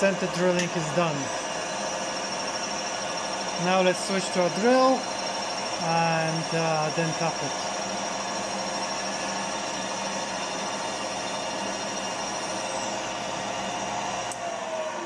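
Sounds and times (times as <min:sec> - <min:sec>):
milling machine motor hum: 0:00.0 - 0:15.0.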